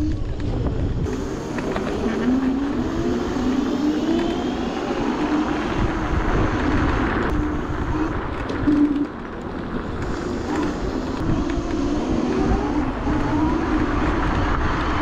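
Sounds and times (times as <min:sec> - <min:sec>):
electric scooter motor whining: 0:00.0 - 0:15.0
wind rumble on microphone: 0:00.0 - 0:15.0.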